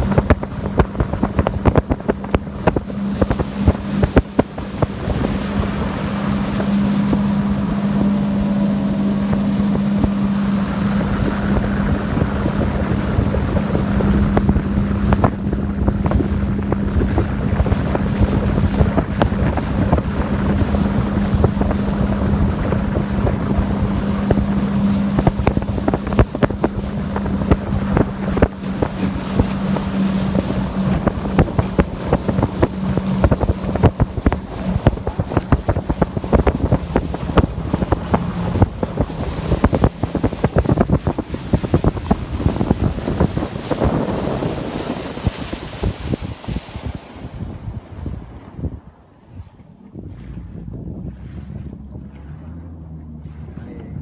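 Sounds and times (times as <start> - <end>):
outboard motor running: 0.0 - 54.0
wind on microphone: 0.0 - 54.0.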